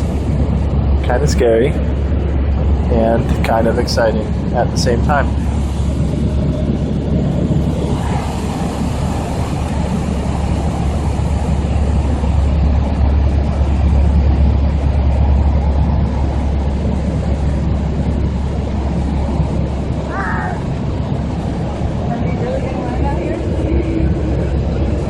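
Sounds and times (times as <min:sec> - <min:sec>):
small airplane engine drone in cabin: 0:00.0 - 0:25.0.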